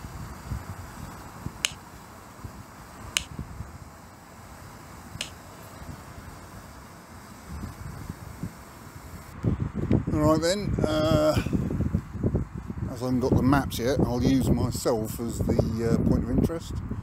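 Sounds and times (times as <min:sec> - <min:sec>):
wind noise on microphone: 0:00.0 - 0:04.0, 0:04.6 - 0:17.0.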